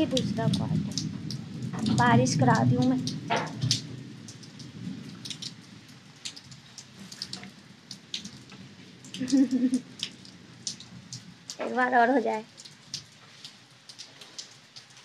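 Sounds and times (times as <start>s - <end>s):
raindrops falling from leaves: 0.0s - 15.0s.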